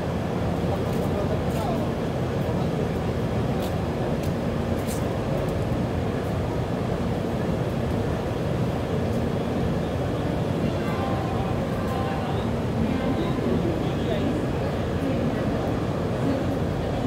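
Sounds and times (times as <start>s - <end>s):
standing train rumble and hum: 0.0s - 17.0s.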